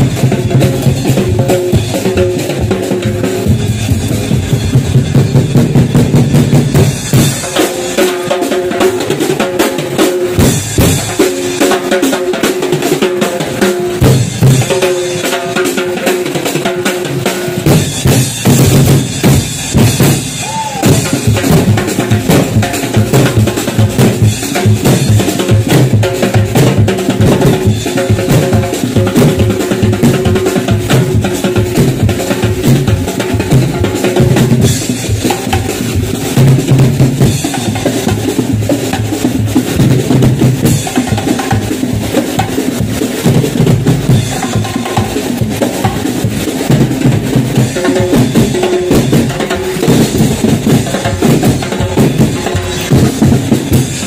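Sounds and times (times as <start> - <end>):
bass drum and snare drumming: 0.0 - 54.0.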